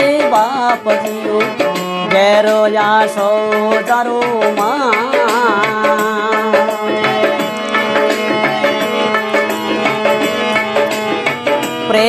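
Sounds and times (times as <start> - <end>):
person singing: 0.0 - 10.2
dholak drumming: 0.0 - 12.0
held melody line: 0.0 - 12.0.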